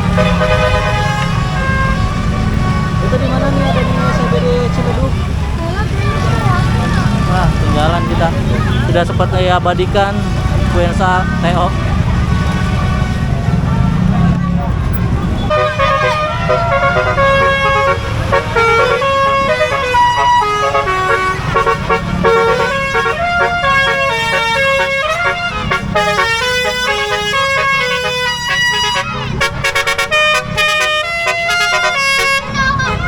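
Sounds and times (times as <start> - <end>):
bus horn playing melody: 0.0 - 9.0, 10.2 - 14.3, 15.3 - 33.0.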